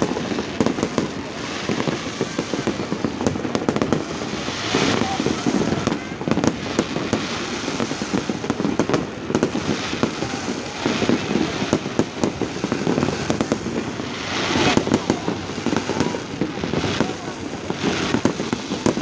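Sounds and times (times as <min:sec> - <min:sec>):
fireworks cracking and banging: 0:00.0 - 0:19.0.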